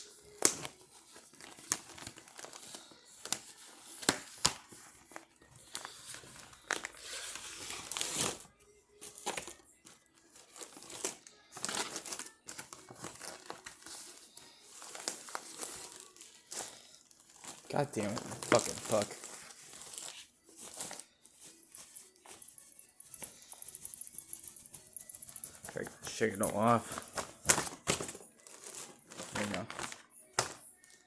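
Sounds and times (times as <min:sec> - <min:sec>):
packaging crinkling and rustling: 0:00.0 - 0:24.4, 0:25.0 - 0:31.0.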